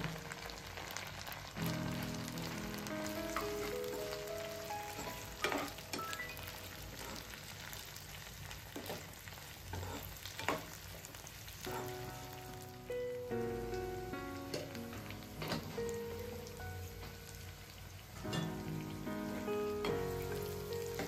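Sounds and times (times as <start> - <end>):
soft background music: 0.0 - 8.2, 11.6 - 21.0
food sizzling in hot oil: 0.0 - 21.0.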